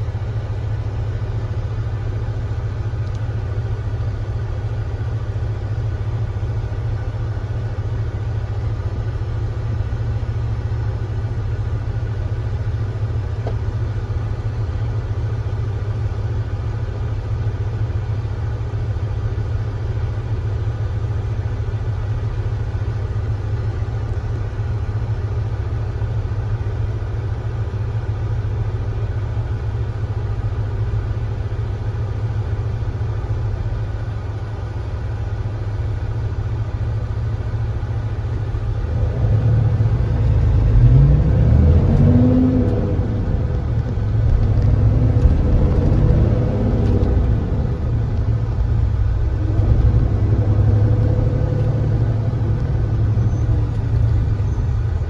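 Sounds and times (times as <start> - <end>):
bus engine rumbling: 0.0 - 55.0.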